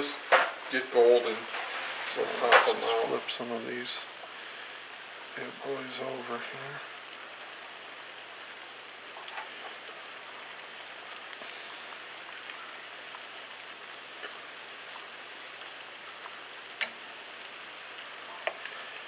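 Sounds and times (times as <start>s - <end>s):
dough sizzling in hot oil: 3.2s - 19.0s.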